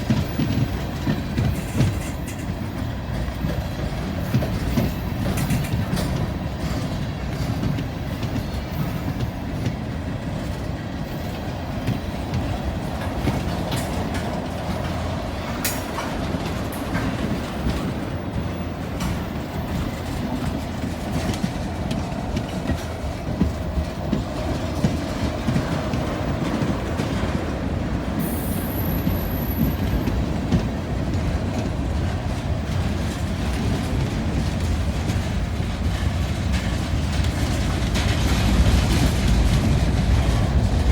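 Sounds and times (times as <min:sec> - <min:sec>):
freight train wheels rumbling: 0:00.0 - 0:40.9
wheels clacking on rail: 0:00.0 - 0:40.9.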